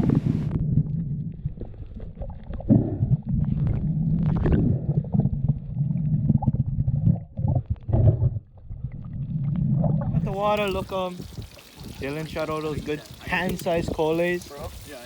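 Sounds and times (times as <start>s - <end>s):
muffled underwater rumbling: 0.0s - 14.9s.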